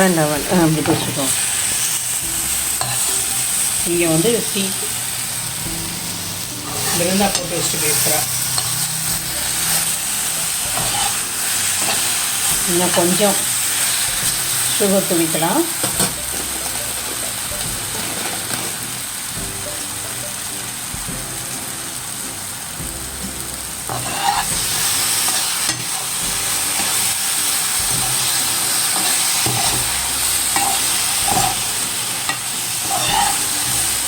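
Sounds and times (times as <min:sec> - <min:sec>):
banana slices sizzling in butter: 0:00.0 - 0:34.0.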